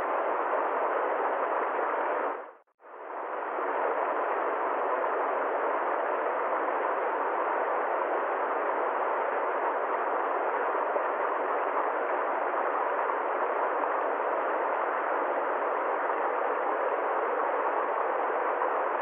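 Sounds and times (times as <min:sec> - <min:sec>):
steady mid-range noise: 0:00.0 - 0:19.0.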